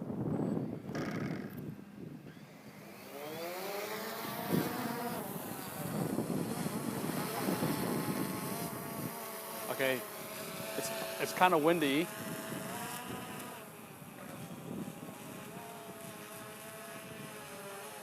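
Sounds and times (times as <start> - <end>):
wind noise on microphone: 0.0 - 18.0
drone propellers buzzing: 0.8 - 18.0.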